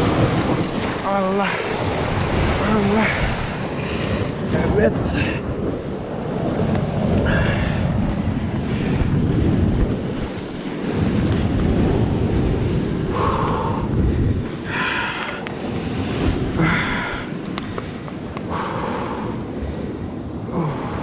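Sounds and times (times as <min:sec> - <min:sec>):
surf washing on rocks: 0:00.0 - 0:21.0
wind buffeting microphone: 0:00.0 - 0:21.0.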